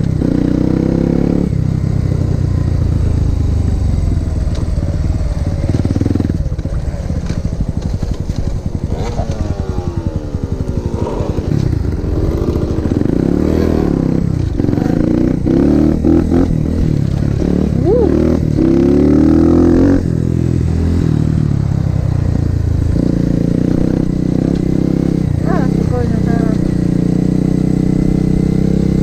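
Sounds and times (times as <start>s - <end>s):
motorbike engine revving: 0.0s - 29.0s.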